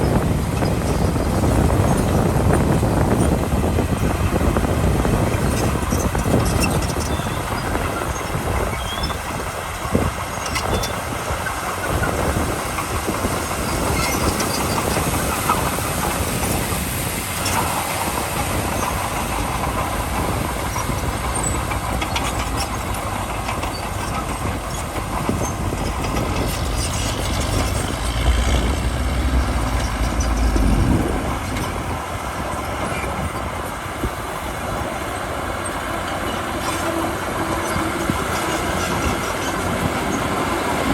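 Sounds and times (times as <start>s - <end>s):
bulldozer diesel engine running: 0.0s - 40.9s
steel tracks clanking: 0.0s - 40.9s.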